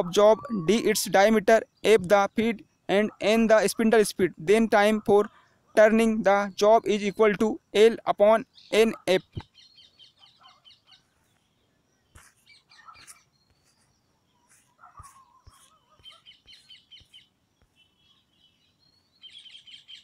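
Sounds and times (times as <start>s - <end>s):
small birds chirping trills: 0.0s - 20.0s.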